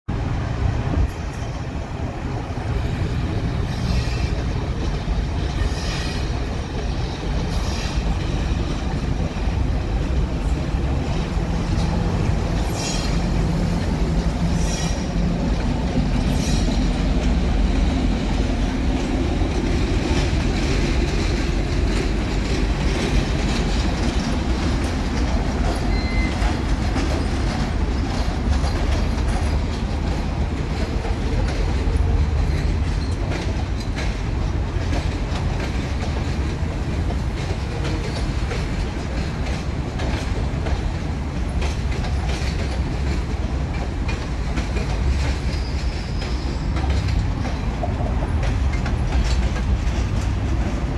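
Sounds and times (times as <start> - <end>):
train wheels clicking over rail joints: 0.8 - 50.9.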